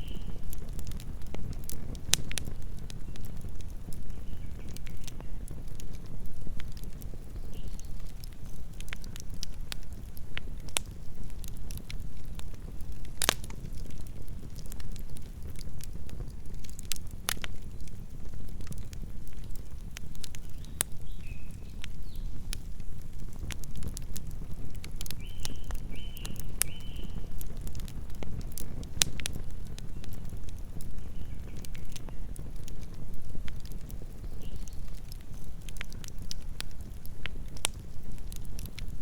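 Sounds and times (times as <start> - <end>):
burning wood crackling and popping: 0.0 - 39.0
low rumble of flames: 0.0 - 39.0.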